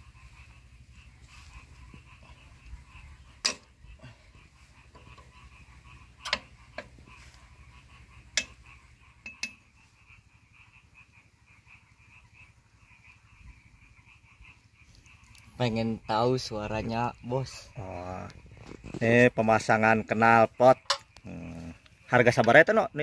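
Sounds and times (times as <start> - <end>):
pulsing animal chorus: 0.0 - 23.0.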